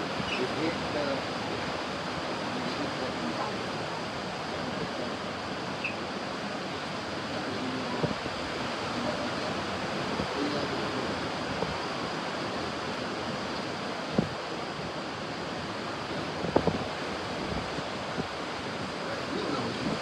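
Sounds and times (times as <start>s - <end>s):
ocean surf rushing: 0.0s - 20.0s
wind on microphone: 0.0s - 20.0s.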